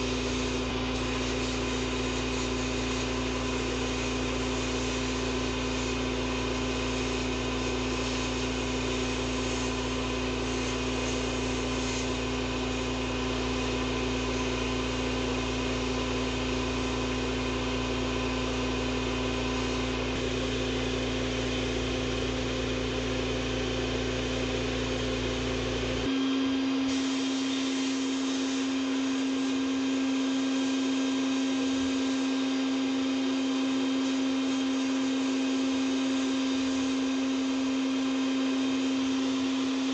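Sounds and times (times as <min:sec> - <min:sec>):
sandblasting nozzle hiss: 0:00.0 - 0:39.9.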